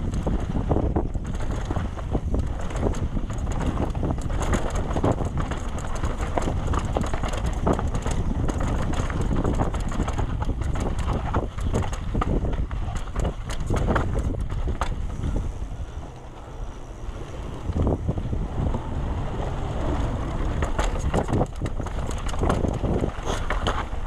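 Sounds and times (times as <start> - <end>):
bike knocks and rattles: 0.0 - 24.0
wind rumbling on microphone: 0.0 - 24.0.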